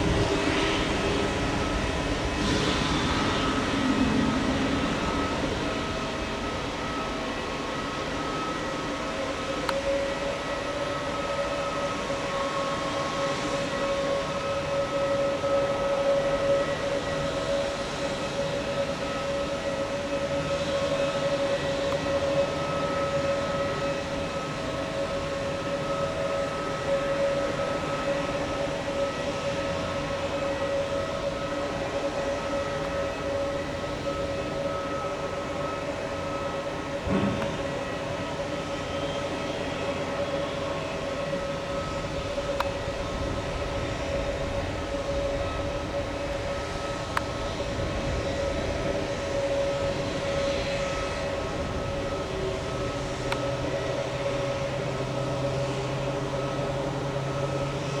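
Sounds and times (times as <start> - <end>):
jet turbine whine at idle: 0.0 - 58.0.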